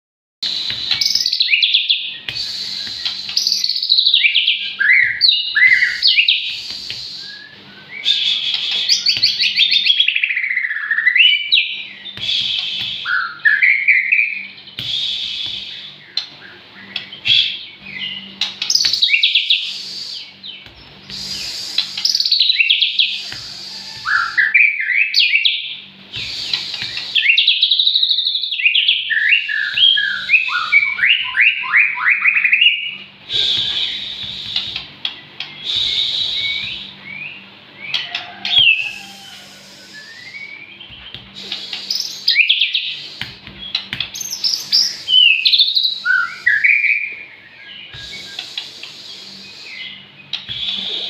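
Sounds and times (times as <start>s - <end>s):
bird singing whistled phrases: 0.4s - 34.8s, 35.5s - 51.0s.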